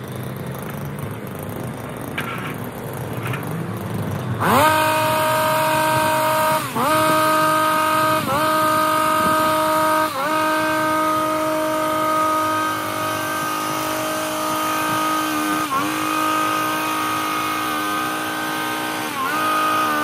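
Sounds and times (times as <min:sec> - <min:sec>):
hedge trimmer engine revving: 0:00.0 - 0:20.0.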